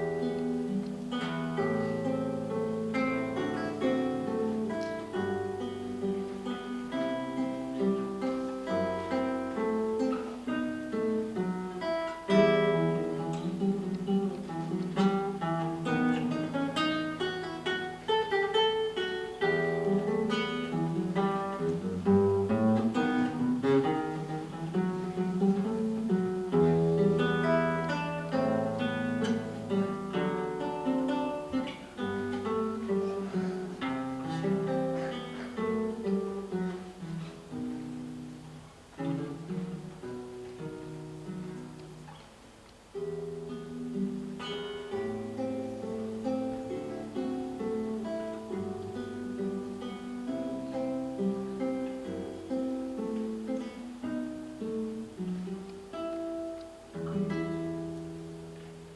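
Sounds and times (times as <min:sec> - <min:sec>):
fingerpicked classical guitar: 0:00.0 - 0:58.9.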